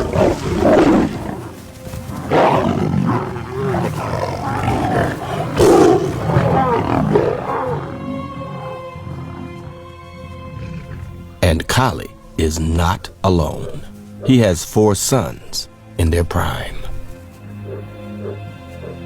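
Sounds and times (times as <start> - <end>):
lions roaring: 0.0 - 14.8, 16.8 - 19.0.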